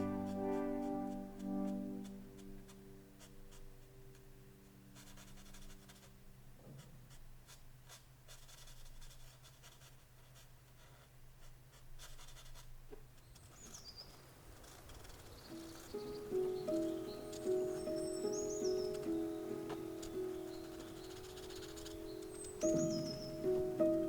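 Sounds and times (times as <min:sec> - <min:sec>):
pen scratching on paper: 0:00.0 - 0:03.9, 0:05.0 - 0:24.0.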